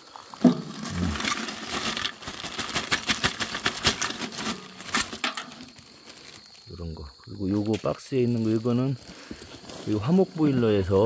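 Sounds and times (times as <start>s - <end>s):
charcoal lumps clattering: 0.0s - 6.6s, 7.5s - 11.0s
plastic bag rustling: 0.0s - 6.7s, 7.6s - 11.0s.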